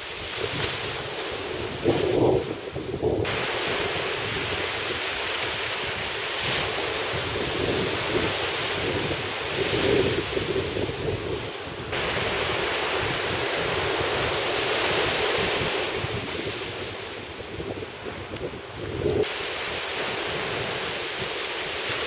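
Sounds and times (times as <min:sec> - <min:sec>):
waves crashing on sand: 0:00.0 - 0:22.0
wind buffeting microphone: 0:00.0 - 0:22.0.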